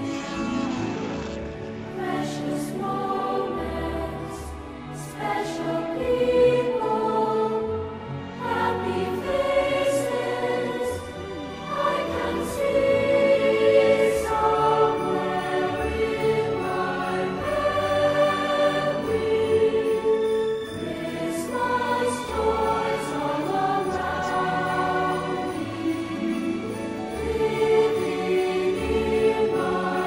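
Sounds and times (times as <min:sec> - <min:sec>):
choir singing sustained chords: 0:00.0 - 0:30.0.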